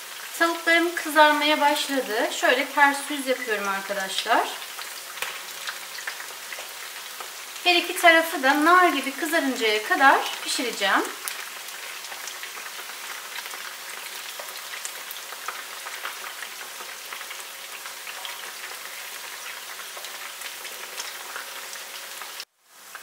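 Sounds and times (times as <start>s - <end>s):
chicken deep-frying in oil: 0.0s - 23.0s.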